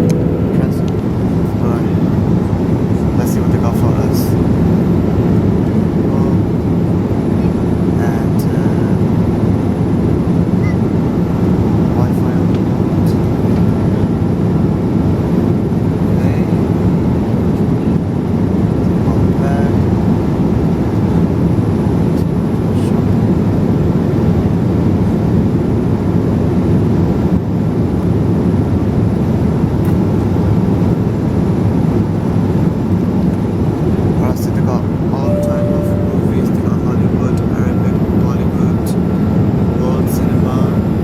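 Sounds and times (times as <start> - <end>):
airplane cabin noise: 0.0 - 41.0.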